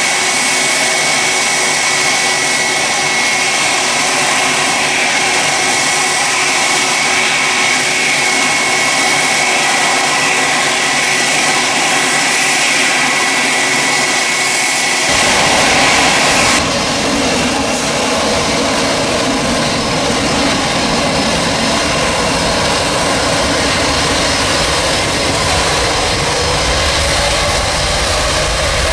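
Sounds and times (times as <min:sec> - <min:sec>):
jet climbing with high whine: 0:00.0 - 0:28.9
jet engines rumbling on runway: 0:00.0 - 0:28.9.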